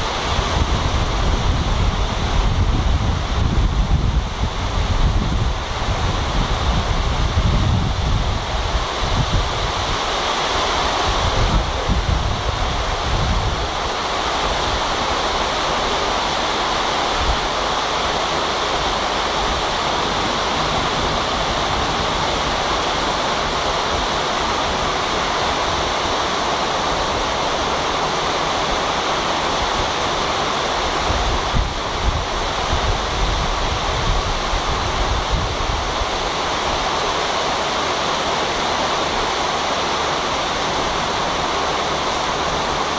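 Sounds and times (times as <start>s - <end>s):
heavy rain falling: 0.0s - 42.9s
wind rumbling on microphone: 0.0s - 42.9s.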